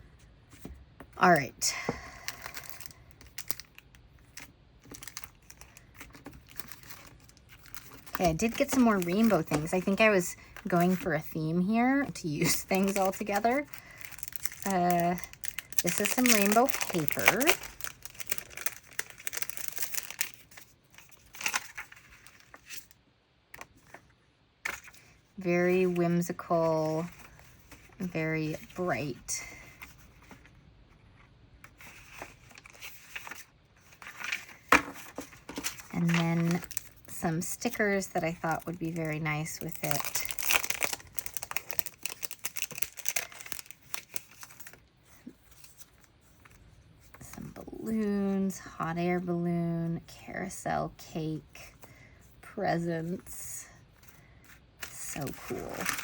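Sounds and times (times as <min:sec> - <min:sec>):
paper rustling and crinkling: 0:02.2 - 0:11.2, 0:11.9 - 0:23.0, 0:23.6 - 0:28.8, 0:29.4 - 0:47.4, 0:53.9 - 0:56.0.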